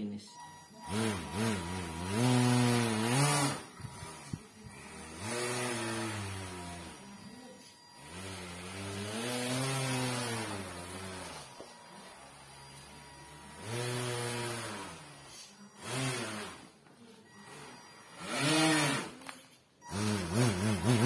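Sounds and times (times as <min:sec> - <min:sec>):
small electric motor humming: 0:00.7 - 0:19.2, 0:19.9 - 0:21.0.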